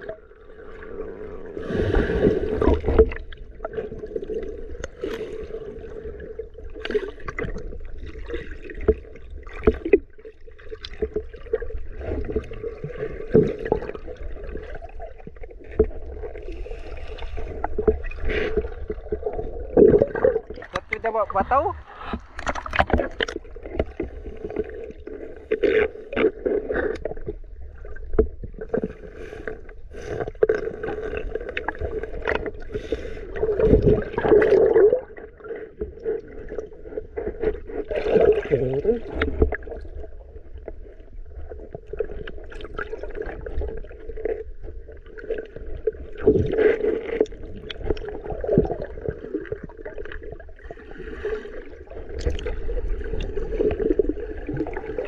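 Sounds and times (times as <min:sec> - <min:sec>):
muffled underwater water movement: 0:00.0 - 0:55.0.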